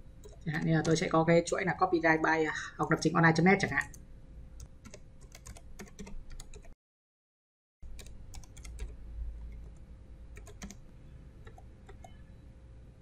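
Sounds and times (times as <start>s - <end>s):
faint steady hum: 0.0s - 6.7s, 7.8s - 13.0s.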